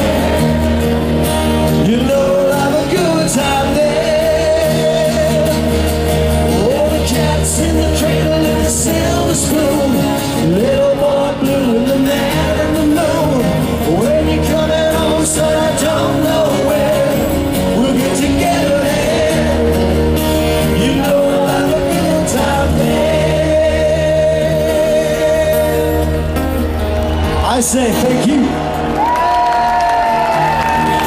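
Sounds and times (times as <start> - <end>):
person singing: 0.0 - 26.3
live rock band playing: 0.0 - 31.0.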